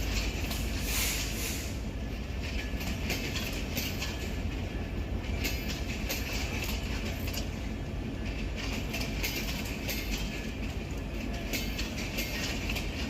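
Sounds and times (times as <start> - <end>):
wheels clicking over rails: 0.0 - 1.4, 2.3 - 13.0
passenger train rumbling by: 0.0 - 13.0.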